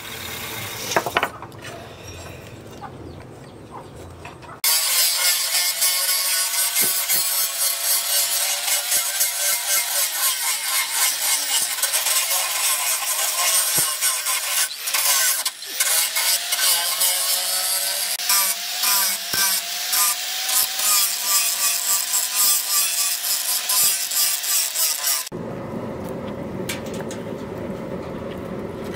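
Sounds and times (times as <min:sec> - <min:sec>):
angle grinder grinding steel: 0:00.0 - 0:02.9, 0:04.6 - 0:25.3.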